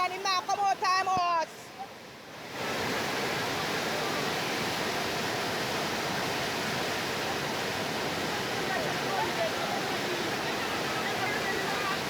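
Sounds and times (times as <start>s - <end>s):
floodwater rushing in a gully: 0.0s - 12.0s.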